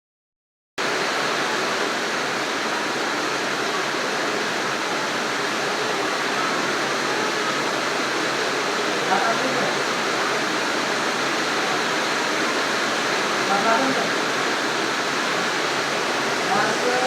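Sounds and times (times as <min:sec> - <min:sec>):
very heavy rain falling: 0:00.8 - 0:17.0.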